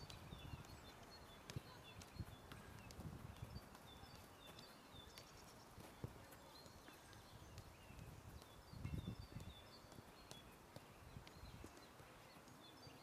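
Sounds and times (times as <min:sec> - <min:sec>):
football tapped on artificial turf: 0:00.0 - 0:12.1
small birds chirping: 0:00.0 - 0:13.0.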